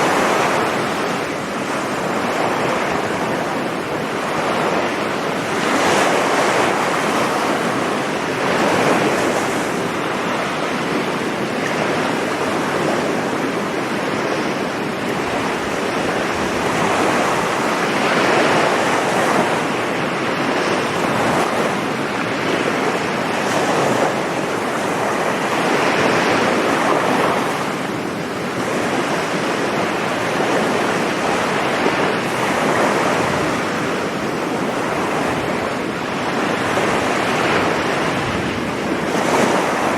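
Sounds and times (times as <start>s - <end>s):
sea waves breaking on beach: 0.0s - 39.9s
wind on microphone: 0.0s - 39.9s.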